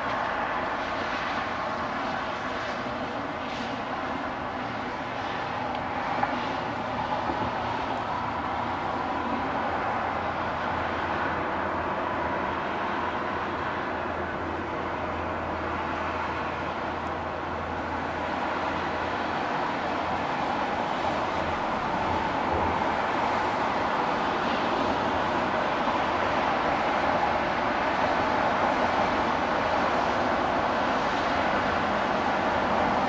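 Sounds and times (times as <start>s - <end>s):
distant road traffic hum: 0.0s - 33.0s.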